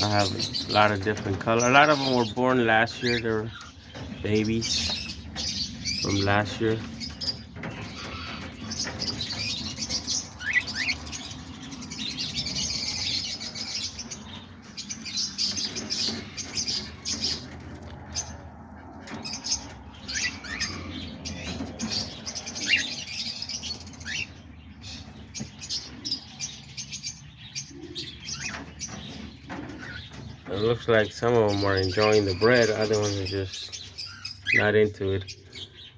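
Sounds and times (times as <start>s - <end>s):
cockatiels chirping: 0.0s - 18.4s, 19.0s - 35.9s.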